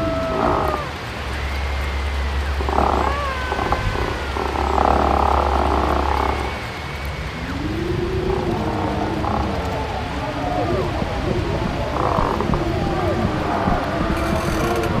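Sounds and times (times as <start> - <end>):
steady low drone: 0.0 - 15.0
raspy croak-like growls: 2.4 - 15.0.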